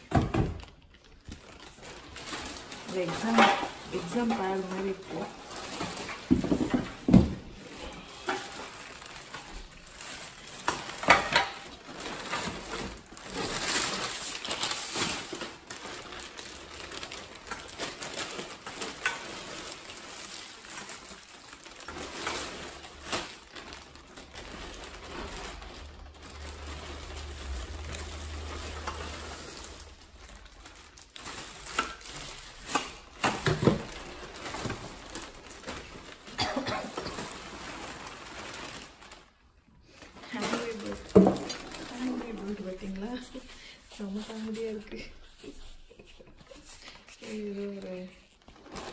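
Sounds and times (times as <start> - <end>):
plastic bags and cardboard rustling: 0.0 - 48.9.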